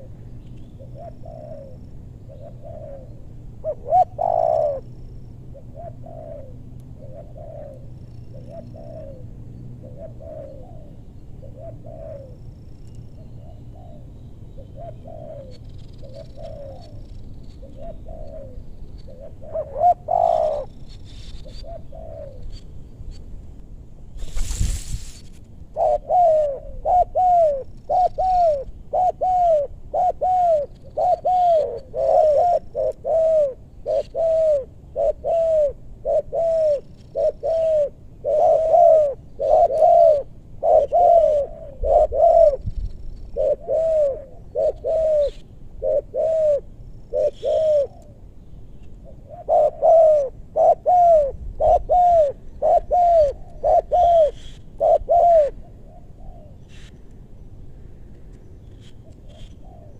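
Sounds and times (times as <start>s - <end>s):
dove cooing: 0.0s - 12.5s, 13.2s - 22.6s, 25.7s - 48.3s, 49.0s - 56.9s, 58.9s - 59.9s.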